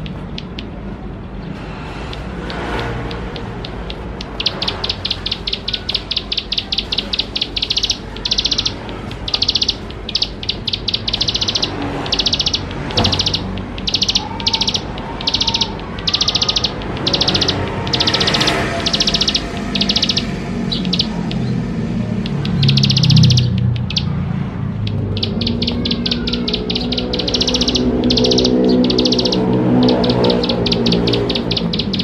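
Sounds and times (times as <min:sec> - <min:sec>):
bird singing buzzy trills: 0:00.0 - 0:32.0.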